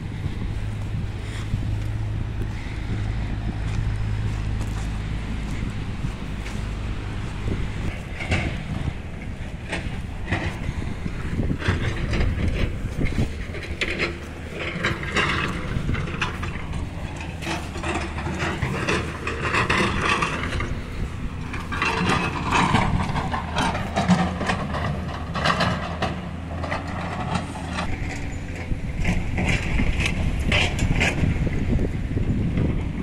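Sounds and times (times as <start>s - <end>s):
excavator diesel engine running: 0.0s - 33.0s
rocks and gravel crunching: 0.0s - 33.0s.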